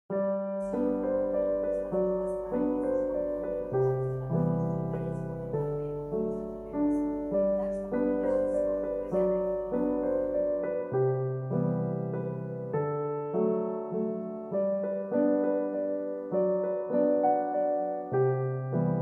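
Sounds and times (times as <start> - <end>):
slow piano music: 0.1 - 19.0.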